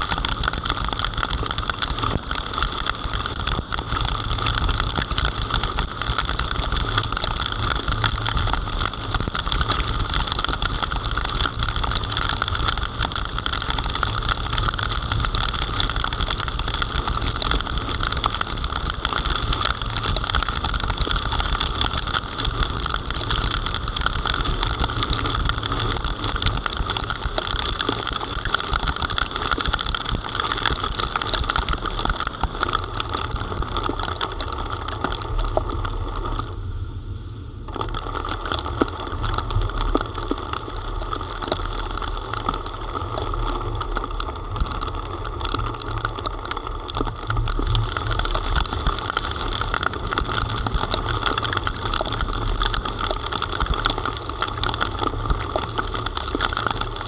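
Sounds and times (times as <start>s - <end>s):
heavy rain falling: 0.0s - 36.9s, 37.6s - 57.0s
low steady rumble: 0.0s - 57.0s.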